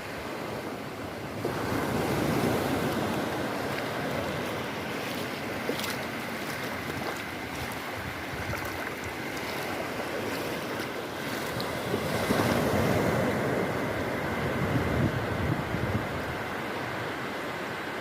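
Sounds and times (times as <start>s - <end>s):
ocean waves washing on beach: 0.0s - 18.0s.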